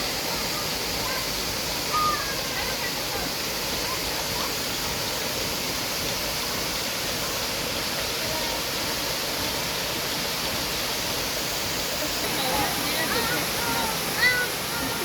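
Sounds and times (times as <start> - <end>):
falling water roaring: 0.0 - 15.0.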